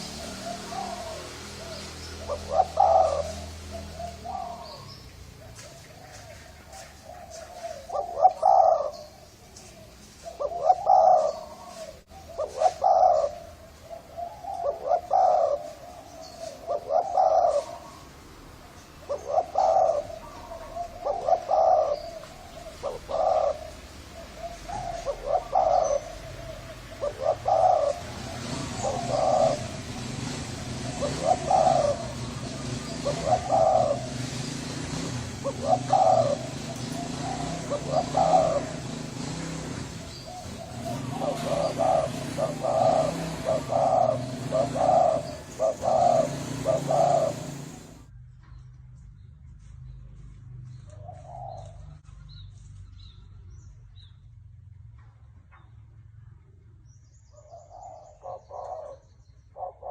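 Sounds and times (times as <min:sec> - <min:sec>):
dove cooing: 0:00.0 - 0:48.1, 0:51.0 - 0:51.9, 0:57.5 - 0:59.9.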